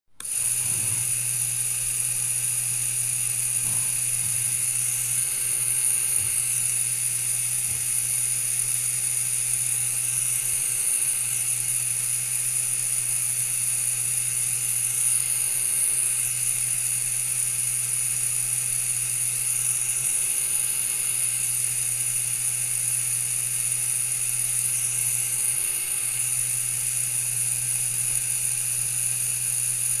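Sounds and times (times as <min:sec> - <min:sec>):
electric motor whirring: 0:00.1 - 0:30.0.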